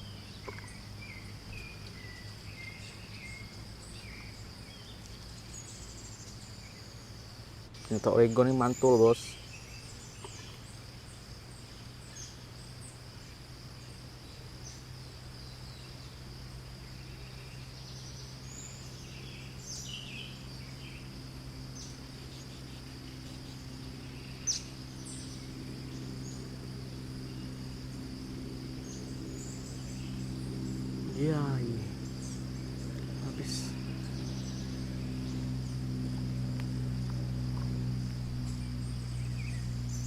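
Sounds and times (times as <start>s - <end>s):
bird chirps: 0.0s - 13.0s, 13.8s - 26.6s, 27.2s - 40.0s
high insect trill: 0.0s - 40.0s
low steady hum: 0.0s - 40.0s.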